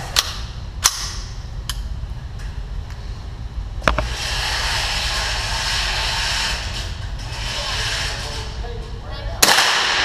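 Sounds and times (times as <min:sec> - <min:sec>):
indoor background hiss and rumble: 0:00.0 - 0:10.0.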